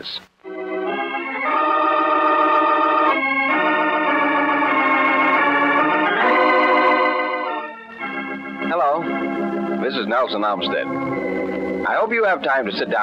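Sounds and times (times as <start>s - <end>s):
organ playing slow chords: 0.0s - 13.0s.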